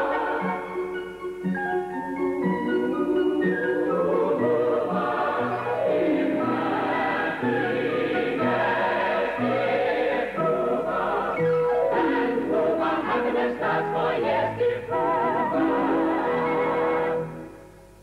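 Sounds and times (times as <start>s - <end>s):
choir singing with vibrato: 0.0s - 1.1s, 2.6s - 17.8s
instrumental accompaniment: 0.0s - 18.0s.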